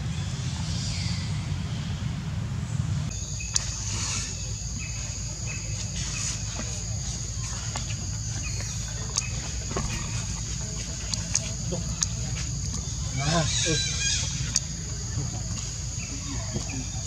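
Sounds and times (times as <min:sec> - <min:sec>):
shrill insect chorus: 0:03.1 - 0:17.0.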